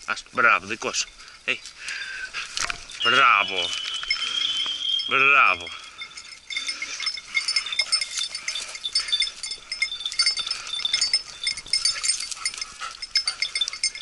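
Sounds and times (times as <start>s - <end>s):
small metal bells jingling: 0.4s - 14.0s.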